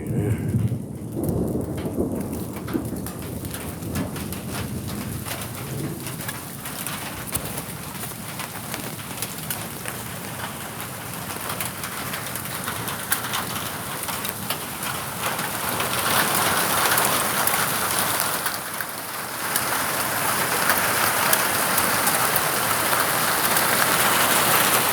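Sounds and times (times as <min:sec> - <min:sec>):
heavy rain pouring: 0:00.0 - 0:24.9
raindrops ticking: 0:00.0 - 0:24.9.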